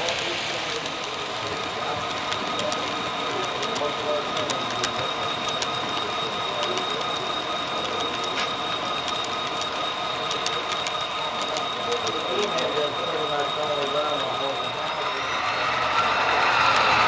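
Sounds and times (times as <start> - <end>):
wheels clicking over rail joints: 0.0 - 15.0
high whine: 0.0 - 17.0
model train whirring past: 0.0 - 17.0.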